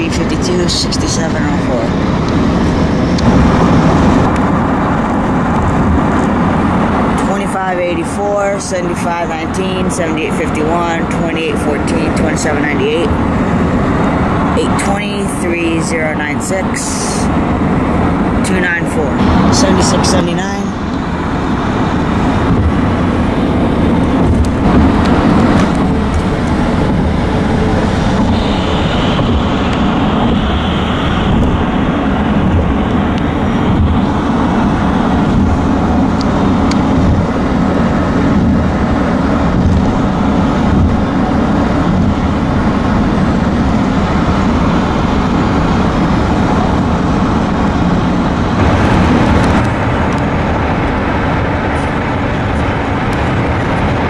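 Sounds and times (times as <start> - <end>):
moving vehicle rumble: 0.0 - 54.0.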